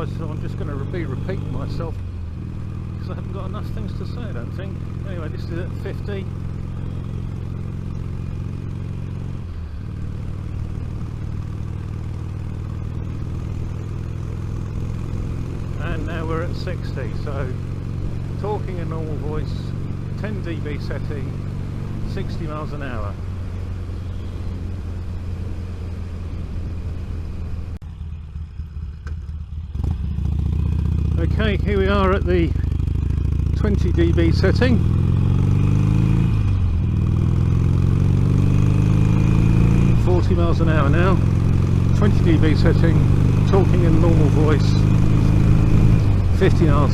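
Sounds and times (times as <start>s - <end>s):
motorcycle engine: 0.0s - 46.9s
road rumble: 0.0s - 46.9s.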